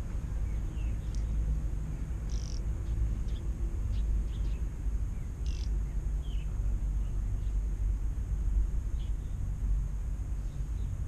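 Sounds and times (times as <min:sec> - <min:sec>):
small birds chirping: 0:00.0 - 0:07.9, 0:08.8 - 0:09.6, 0:10.2 - 0:11.0
steady low rumble: 0:00.0 - 0:11.0.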